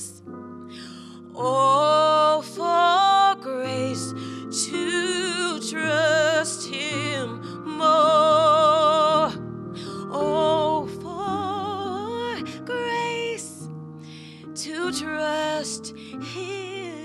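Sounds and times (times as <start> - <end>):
woman singing a hymn: 0.8 - 13.7, 14.5 - 17.0.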